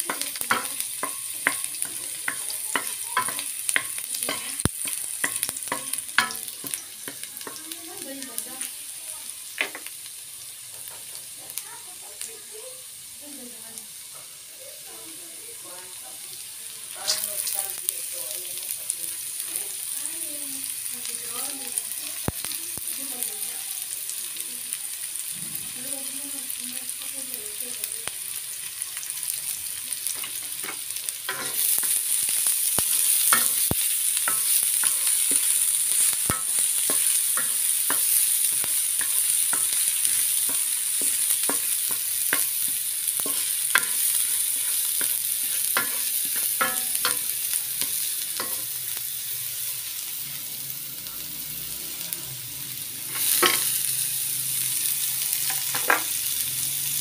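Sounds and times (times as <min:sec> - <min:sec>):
onion sizzling in oil: 0:00.0 - 0:57.0.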